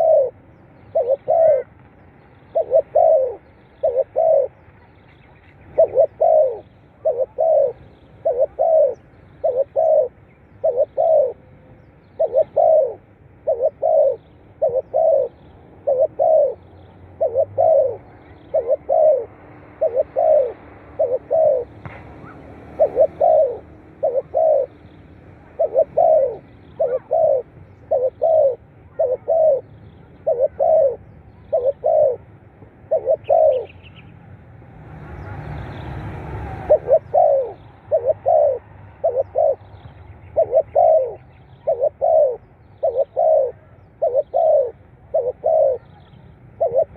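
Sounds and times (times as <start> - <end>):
dove cooing: 0.0 - 34.0, 36.2 - 46.9.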